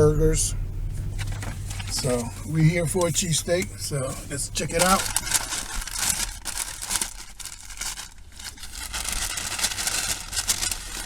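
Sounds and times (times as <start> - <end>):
low steady hum: 0.0 - 11.0
paper wrapping crinkling and tearing: 1.2 - 11.0.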